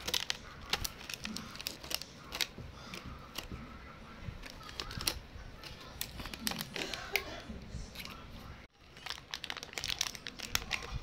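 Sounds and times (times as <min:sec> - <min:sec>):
puppy chewing plastic: 0:00.0 - 0:07.3, 0:08.8 - 0:11.0.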